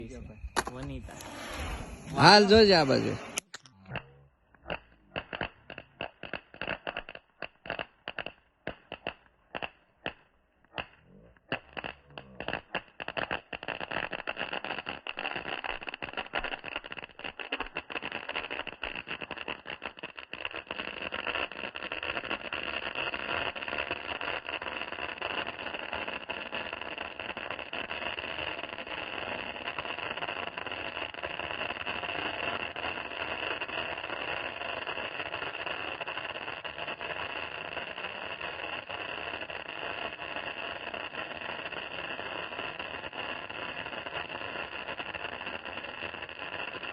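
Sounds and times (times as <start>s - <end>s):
firework crackling and popping: 0.0s - 46.9s.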